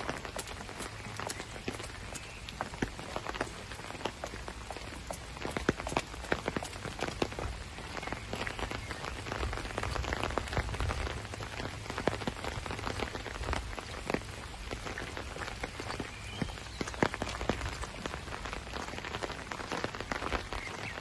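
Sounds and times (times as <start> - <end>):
rain falling on asphalt: 0.0 - 21.0
sharp raindrop hits: 0.0 - 21.0.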